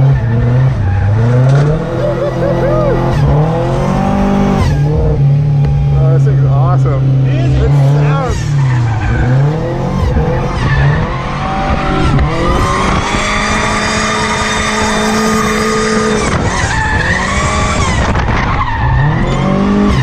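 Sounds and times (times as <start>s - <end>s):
car engine revving high: 0.0s - 20.0s.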